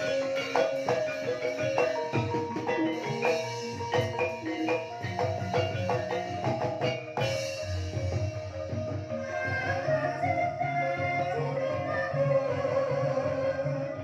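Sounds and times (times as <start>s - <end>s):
gamelan mallet notes: 0.0s - 11.8s.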